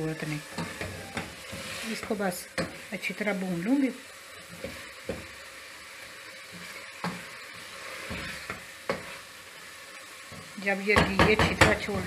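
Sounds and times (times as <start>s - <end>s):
mince sizzling in a pot: 0.0s - 12.0s.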